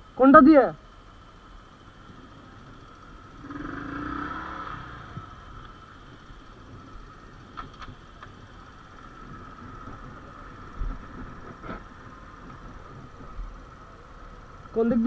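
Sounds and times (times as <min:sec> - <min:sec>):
motorcycle engine at low revs: 0:01.2 - 0:15.0.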